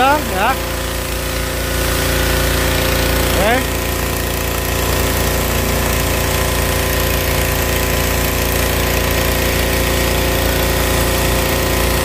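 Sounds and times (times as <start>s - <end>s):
pressure washer engine running: 0.0s - 12.0s.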